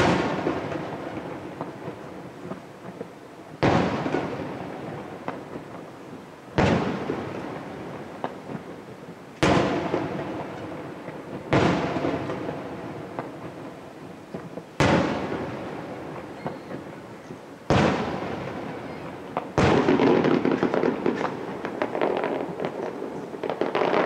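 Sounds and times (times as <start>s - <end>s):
firework shells booming: 0.0s - 5.8s, 6.5s - 8.8s, 9.4s - 24.0s.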